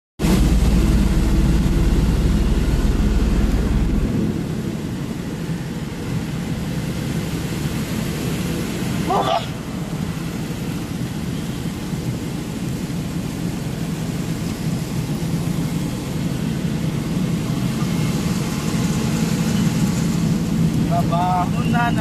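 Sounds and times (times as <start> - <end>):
truck engine and road noise: 0.2 - 22.0.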